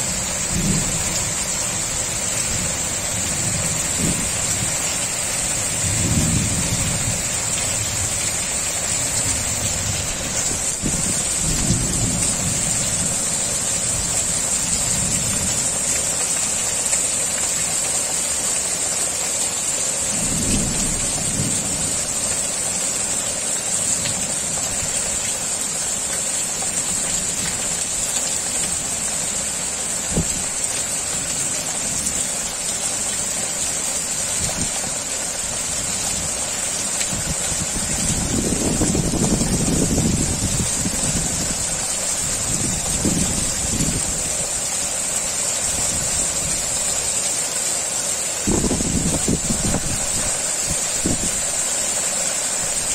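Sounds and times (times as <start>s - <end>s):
heavy rain hissing: 0.0s - 52.9s.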